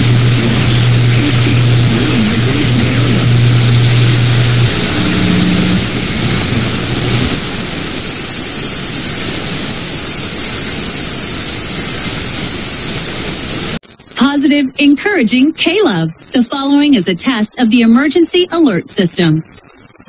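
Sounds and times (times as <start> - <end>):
low hum: 0.0 - 18.2
radio static hiss: 0.0 - 20.0.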